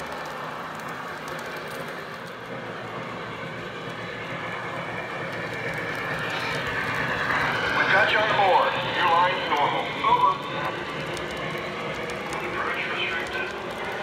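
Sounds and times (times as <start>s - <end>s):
model train wheels rumbling on rail: 0.0s - 14.0s.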